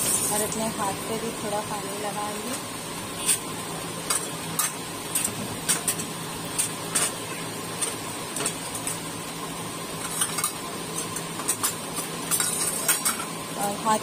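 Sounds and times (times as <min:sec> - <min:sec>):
hot oil popping in a pan: 0:00.0 - 0:00.8, 0:01.9 - 0:13.7
steady background hum: 0:00.0 - 0:14.0.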